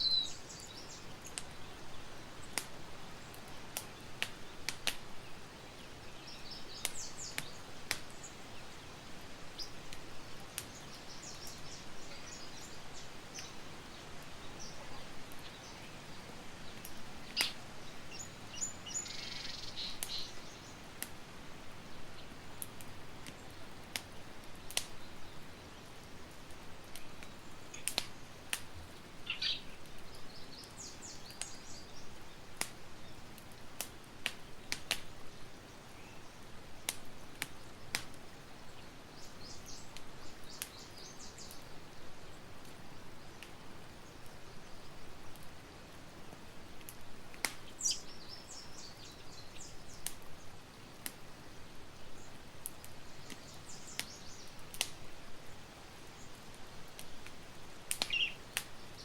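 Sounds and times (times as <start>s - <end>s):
campfire crackling: 0.0s - 59.0s
small birds chirping: 0.0s - 59.0s.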